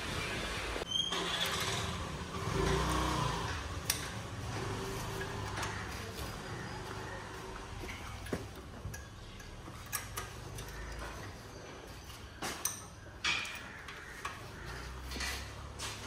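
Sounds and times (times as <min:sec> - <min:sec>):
hand tools clinking on metal: 0:02.6 - 0:16.0.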